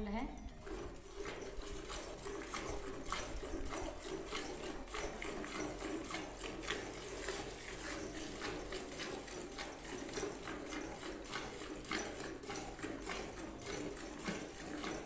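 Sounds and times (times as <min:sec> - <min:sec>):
milk squirting into steel bucket: 0:00.5 - 0:15.0.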